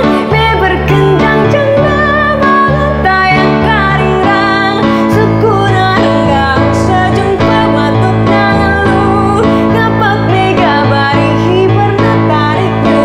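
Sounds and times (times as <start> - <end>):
keyboard accompaniment: 0.0 - 13.0
woman singing: 0.0 - 13.0.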